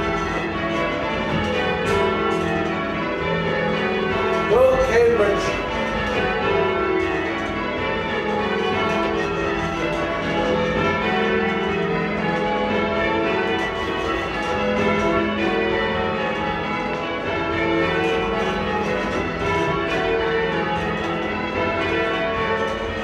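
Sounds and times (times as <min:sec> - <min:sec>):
church bells change ringing: 0:00.0 - 0:23.0.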